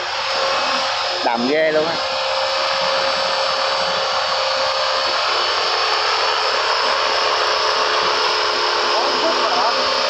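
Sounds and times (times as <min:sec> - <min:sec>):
rc helicopter motor and rotor whine: 0:00.0 - 0:10.0.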